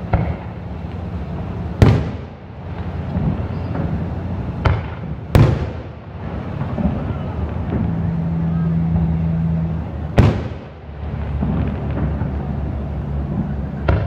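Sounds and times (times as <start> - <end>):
firework shells bursting: 0.0 - 8.4, 9.0 - 14.0
steady background noise: 0.0 - 14.0.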